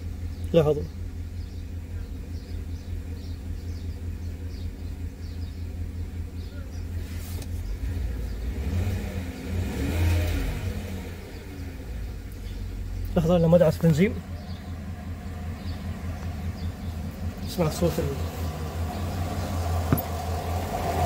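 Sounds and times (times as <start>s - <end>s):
misfiring car engine revving: 0.0s - 21.0s.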